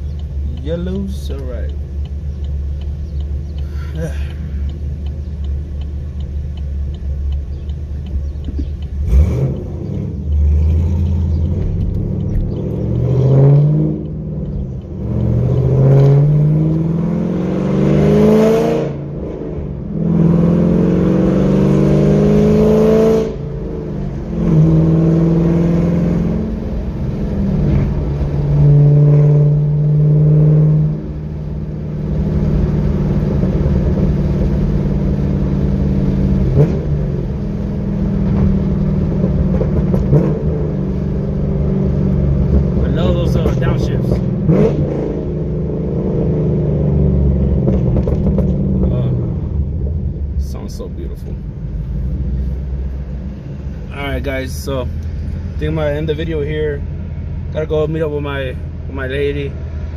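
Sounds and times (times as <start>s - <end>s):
car engine accelerating hard: 7.1s - 58.3s.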